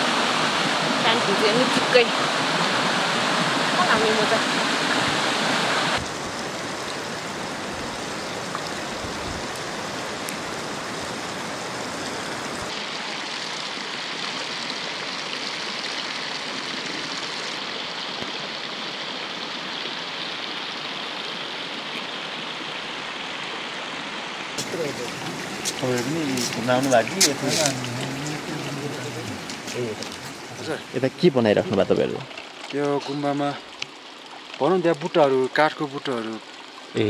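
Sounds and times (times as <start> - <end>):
running water rushing: 0.0 - 37.0.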